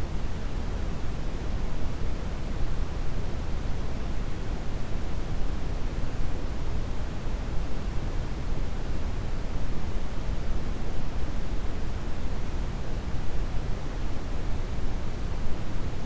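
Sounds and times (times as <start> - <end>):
brown noise hiss: 0.0 - 16.0.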